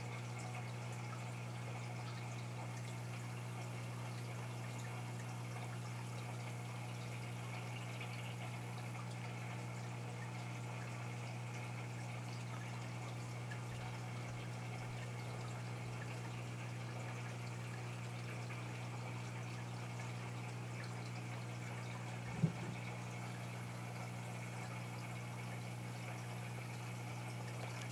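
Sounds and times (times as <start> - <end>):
aquarium equipment hum: 0.0 - 27.9
water trickling and bubbling: 0.1 - 27.9.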